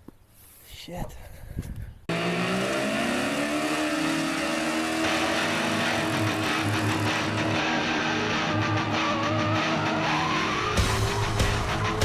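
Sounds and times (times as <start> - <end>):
car engine revving: 2.1 - 12.0.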